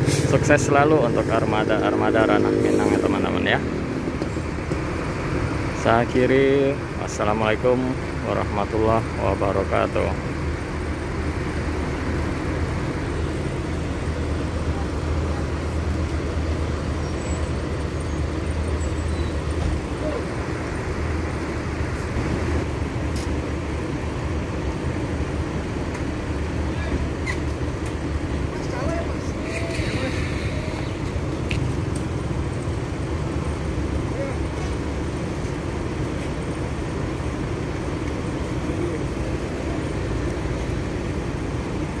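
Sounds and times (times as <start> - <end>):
bus engines idling: 0.0 - 42.0
road traffic: 0.0 - 42.0.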